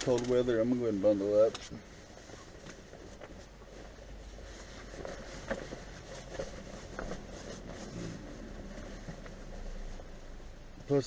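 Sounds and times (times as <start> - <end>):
heavy coat rustling: 0.0 - 11.0.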